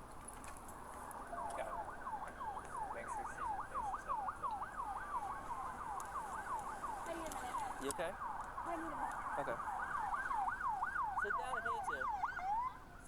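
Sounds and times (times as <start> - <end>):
emergency siren yelping: 0.9 - 13.0.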